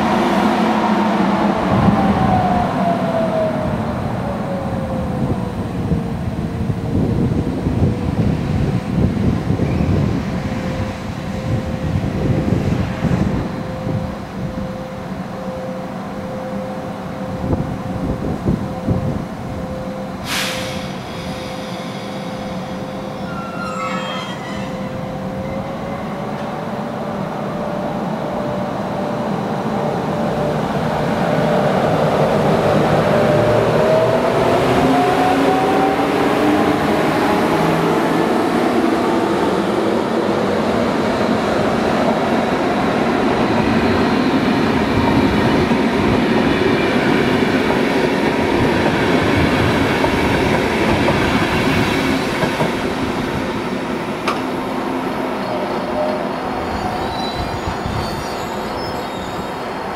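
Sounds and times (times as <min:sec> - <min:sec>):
electric train whine: 0:00.0 - 0:59.9.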